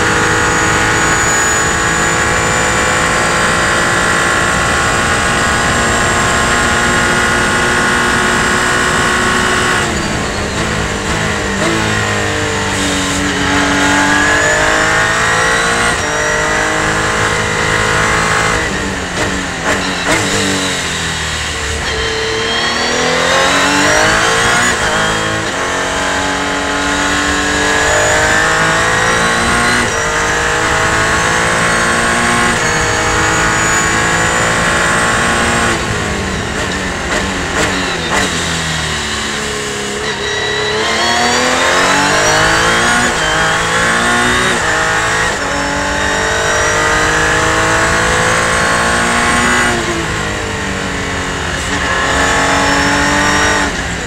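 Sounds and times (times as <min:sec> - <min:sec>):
engine rev blips on downshifts: 0:00.0 - 0:54.0
race car engine accelerating: 0:00.0 - 0:54.0.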